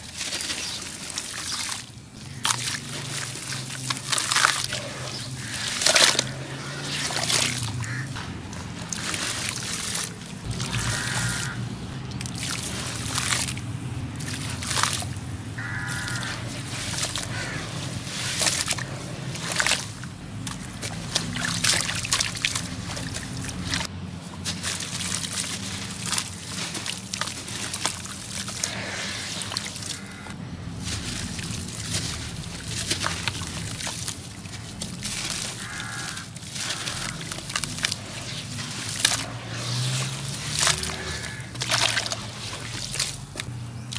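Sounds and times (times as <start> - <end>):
gritty crunches of wet lumps: 0.0 - 43.9
water splashing and sloshing: 0.0 - 43.9.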